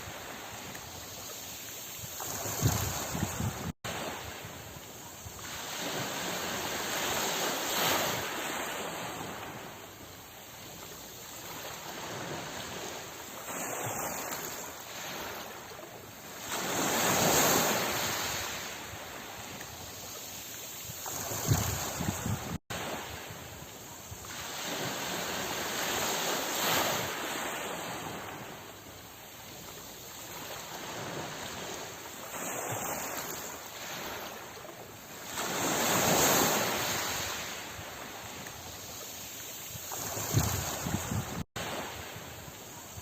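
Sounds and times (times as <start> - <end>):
ocean waves breaking: 0.0 - 43.0.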